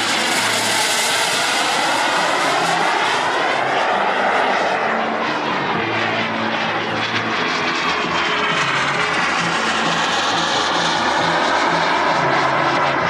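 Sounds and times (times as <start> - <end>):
model jet turbine rush: 0.0 - 13.0.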